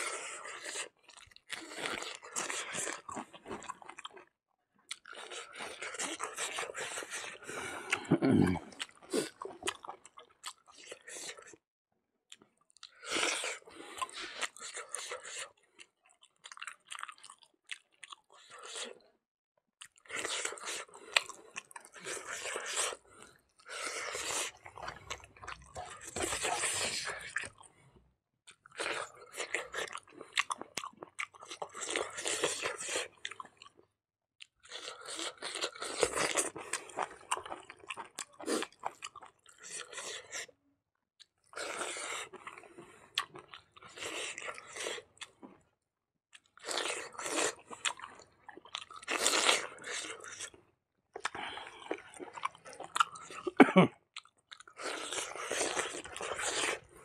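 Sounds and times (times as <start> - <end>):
person chewing and crunching: 0.0 - 11.6, 12.3 - 19.1, 19.8 - 27.9, 28.5 - 40.6, 41.2 - 45.7, 46.3 - 57.0.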